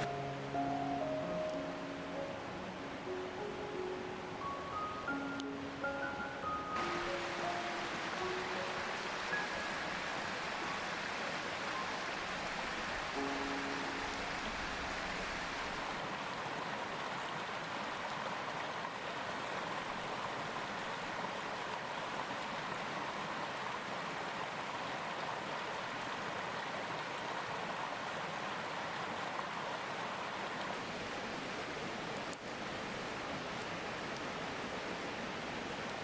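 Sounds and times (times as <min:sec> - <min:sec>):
mountain stream flowing: 0:00.0 - 0:36.0.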